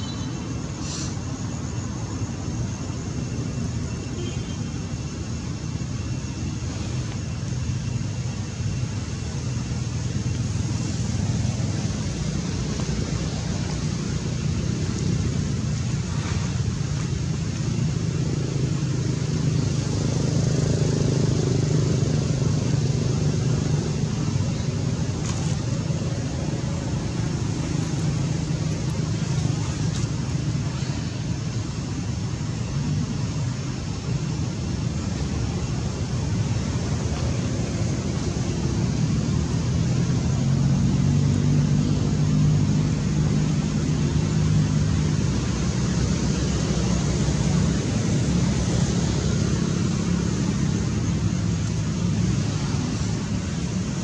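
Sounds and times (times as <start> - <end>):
low traffic rumble: 0.0 - 54.0.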